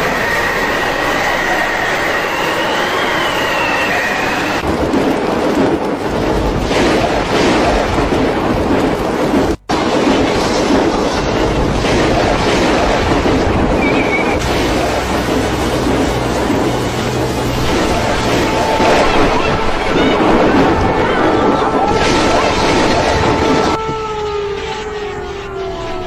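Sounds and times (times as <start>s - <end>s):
rain: 0.0s - 26.0s
wind on microphone: 2.9s - 26.0s
low rumble: 4.6s - 26.0s.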